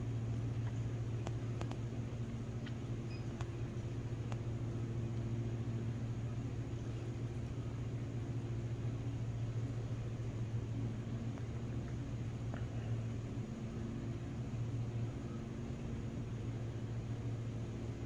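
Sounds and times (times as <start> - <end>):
aquarium pumps humming: 0.0 - 18.0.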